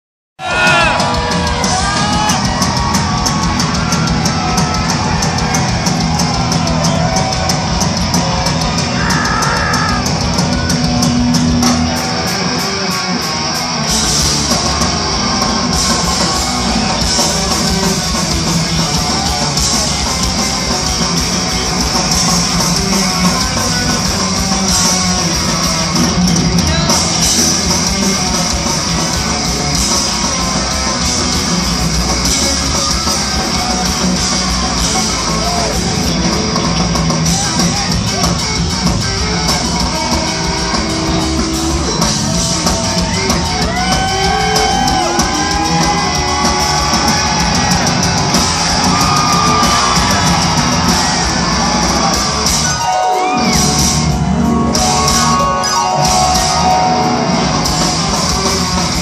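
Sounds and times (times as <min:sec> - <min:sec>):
punk rock band playing loud: 0:00.4 - 0:59.0.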